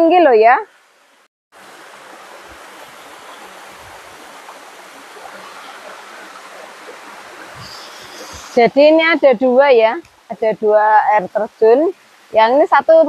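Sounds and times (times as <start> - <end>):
waterfall rushing: 1.6 - 13.0.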